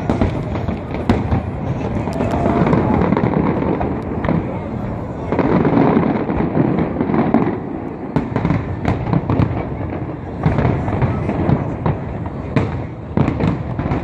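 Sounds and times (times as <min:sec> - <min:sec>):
rumble of explosions: 0:00.0 - 0:14.0.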